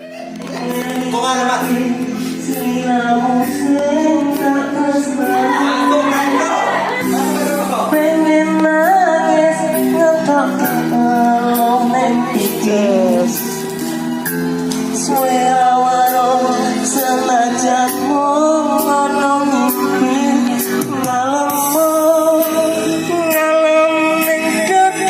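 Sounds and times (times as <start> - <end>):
gliding melodic lead line: 0.0 - 25.0.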